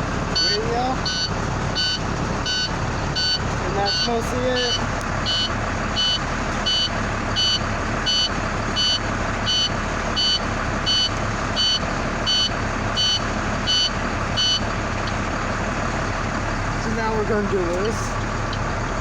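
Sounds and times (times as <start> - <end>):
truck backup alarm beeping: 0.0 - 18.8
truck engine running: 0.0 - 19.0.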